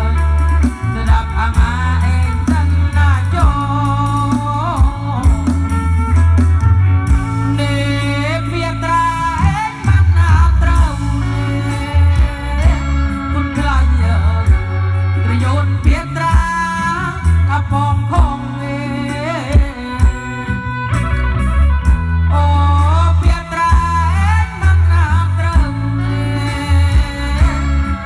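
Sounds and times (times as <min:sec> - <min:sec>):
song over pa system: 0:00.0 - 0:28.0.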